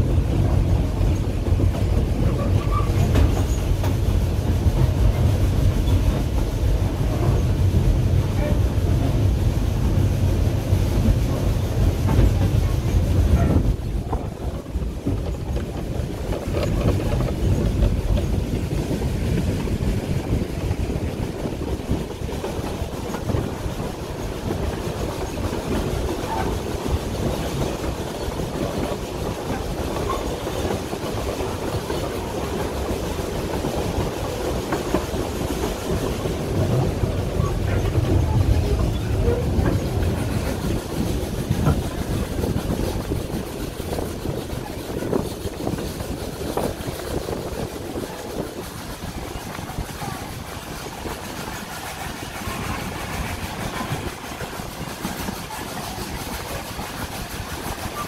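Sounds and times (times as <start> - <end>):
train wheels rattling on rails: 0.0 - 58.0.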